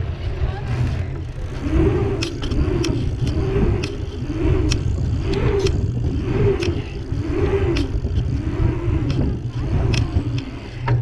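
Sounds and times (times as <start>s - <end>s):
bike tyres humming: 0.0s - 11.0s
wind rumble on microphone: 0.0s - 11.0s
bike rattling clicks: 1.0s - 11.0s.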